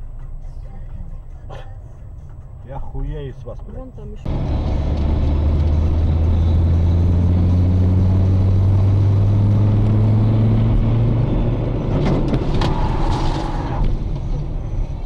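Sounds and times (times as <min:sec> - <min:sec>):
road noise: 0:00.0 - 0:15.0
car engine running: 0:01.9 - 0:15.0.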